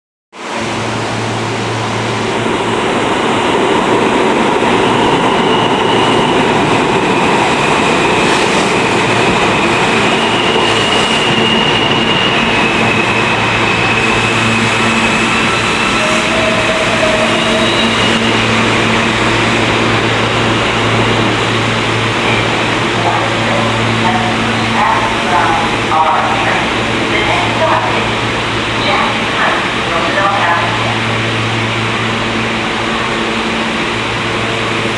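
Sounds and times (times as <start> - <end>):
train wheel and track noise: 0.4 - 34.9.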